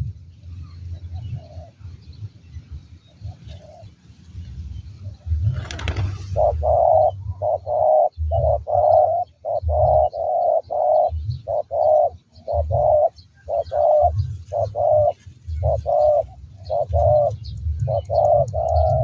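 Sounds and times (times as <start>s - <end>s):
doves cooing: 0.6s - 2.0s, 3.0s - 4.0s, 4.8s - 19.0s.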